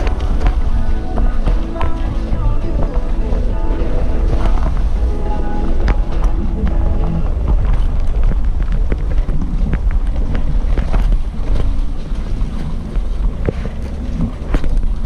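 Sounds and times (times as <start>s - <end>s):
vehicle low rumble: 0.0s - 15.0s
wind buffeting microphone: 0.0s - 15.0s.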